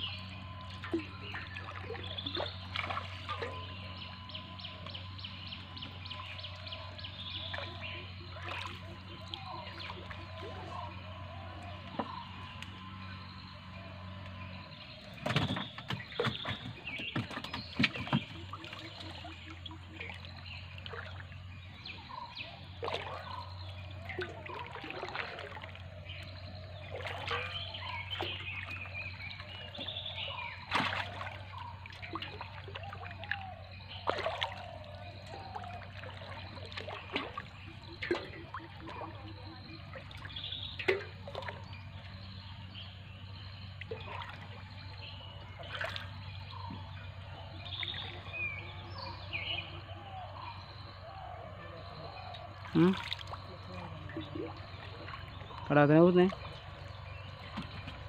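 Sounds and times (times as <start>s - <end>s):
water dripping and trickling: 0.0s - 13.1s, 14.0s - 42.4s, 43.3s - 48.4s, 52.4s - 58.0s
small water splashes: 0.0s - 58.0s.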